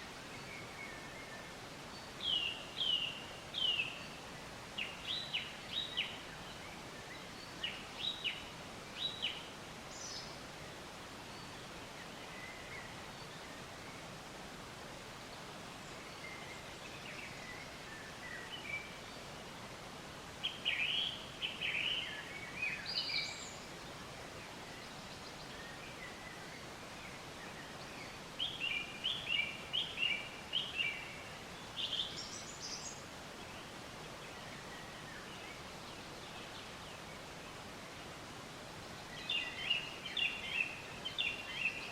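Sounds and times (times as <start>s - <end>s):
steady outdoor hiss: 0.0s - 41.9s.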